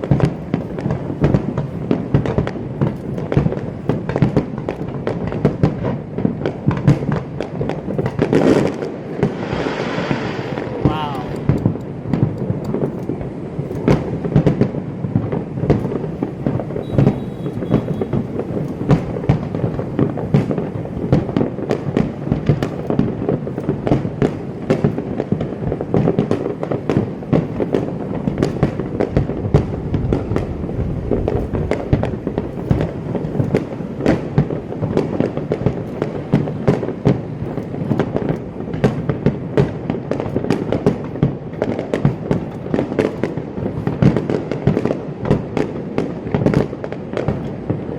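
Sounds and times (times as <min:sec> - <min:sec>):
fireworks bangs: 0:00.0 - 0:47.9
rumble of firework bursts: 0:00.0 - 0:47.9.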